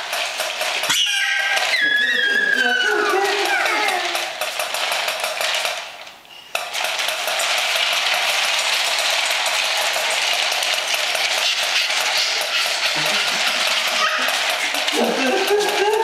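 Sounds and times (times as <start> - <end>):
toy motor whirring and clicking: 0.0 - 16.0.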